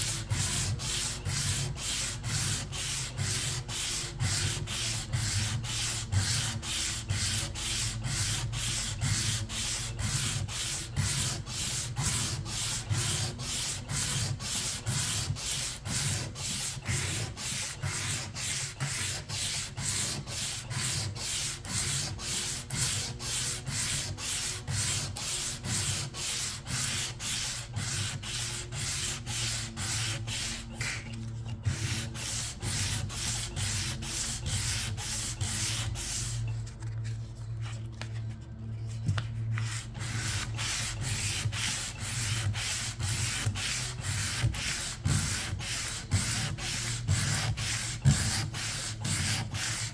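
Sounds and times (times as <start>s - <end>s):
sandpaper rubbing back and forth: 0.0s - 36.7s, 38.9s - 49.9s.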